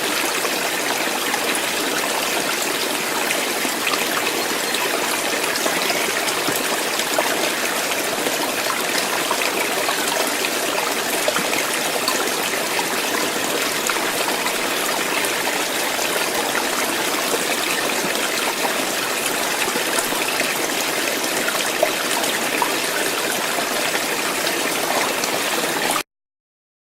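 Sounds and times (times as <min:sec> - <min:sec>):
stream water bubbling: 0:00.0 - 0:26.0.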